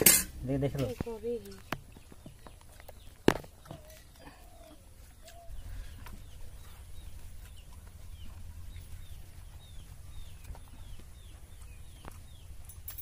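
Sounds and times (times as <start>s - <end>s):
bird chirping: 0.4s - 13.0s.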